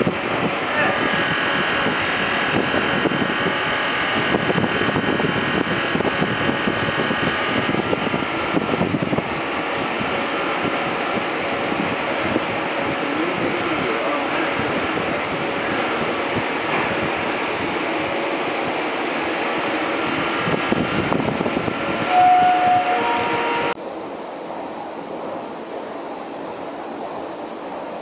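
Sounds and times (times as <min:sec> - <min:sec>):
electric train rolling past: 0:00.0 - 0:28.0
train high whine: 0:00.0 - 0:28.0.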